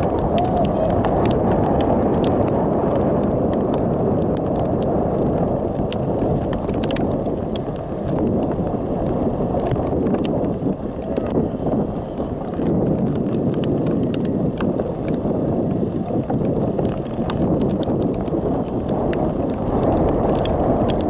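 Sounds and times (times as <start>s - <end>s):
raindrops ticking on camera: 0.0s - 21.0s
wind buffeting microphone: 0.0s - 21.0s.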